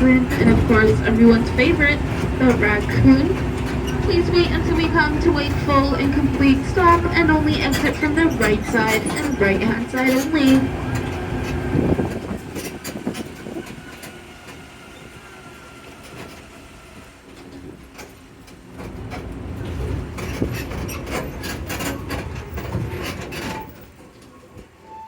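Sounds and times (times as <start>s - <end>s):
tram motor running low: 0.0s - 24.2s
passenger cars rattling: 0.0s - 25.0s.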